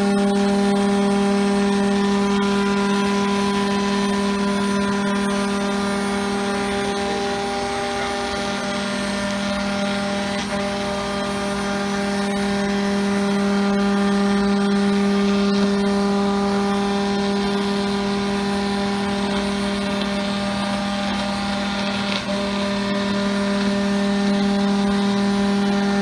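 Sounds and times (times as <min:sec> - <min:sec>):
cnc router machine hum: 0:00.0 - 0:26.0.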